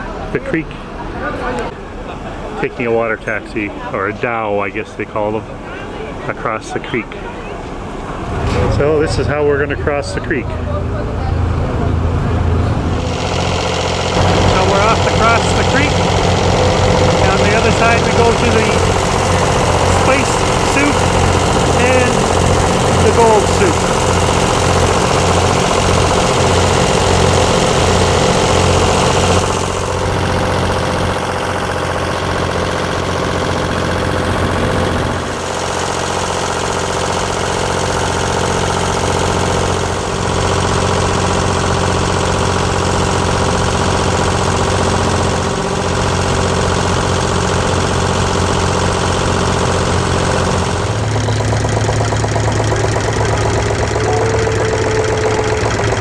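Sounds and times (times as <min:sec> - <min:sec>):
boat engine throbbing: 0:08.6 - 0:56.0.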